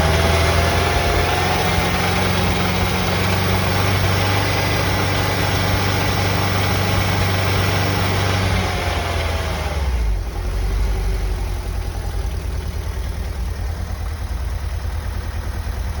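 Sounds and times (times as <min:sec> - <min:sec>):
engine knocking: 0:00.0 - 0:16.0
engine running and idling: 0:00.0 - 0:16.0.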